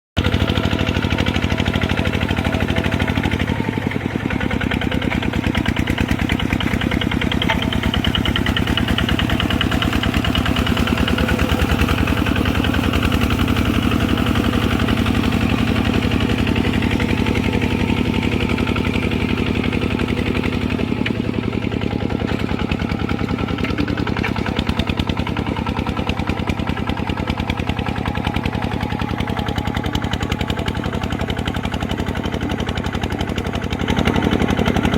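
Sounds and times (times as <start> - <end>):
diesel engine chugging: 0.2 - 34.9.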